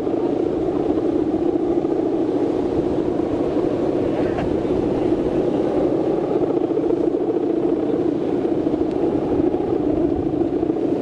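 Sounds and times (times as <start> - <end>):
kite hummer buzzing drone: 0.0 - 11.0
low wind rumble: 0.0 - 11.0.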